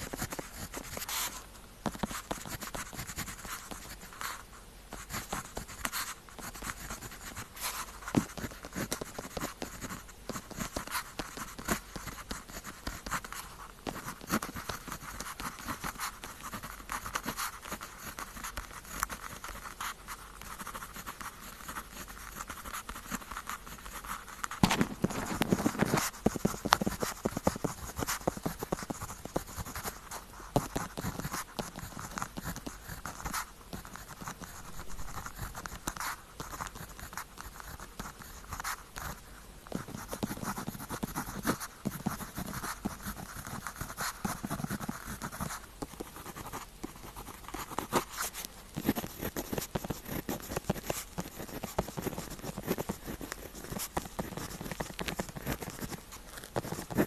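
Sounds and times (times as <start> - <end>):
pen scratching on paper: 0.0 - 57.0.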